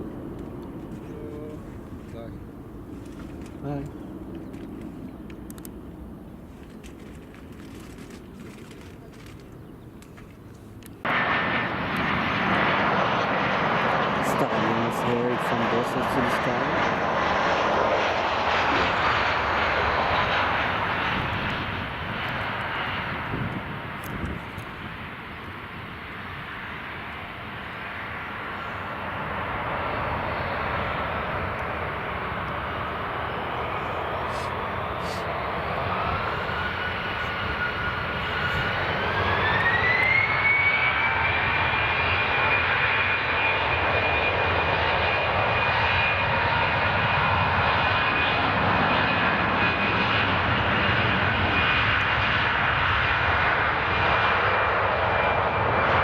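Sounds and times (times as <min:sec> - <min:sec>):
jet engines spooling up: 0:10.3 - 0:56.0
engine whine climbing in pitch: 0:10.7 - 0:56.0.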